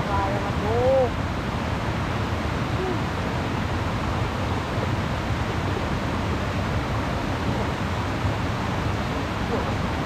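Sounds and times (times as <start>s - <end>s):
river water rushing over rocks: 0.0s - 10.0s
wind on microphone: 0.0s - 10.0s.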